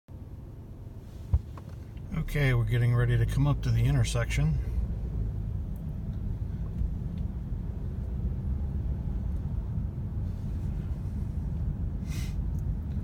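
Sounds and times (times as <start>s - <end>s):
car engine and road rumble: 0.1s - 13.0s.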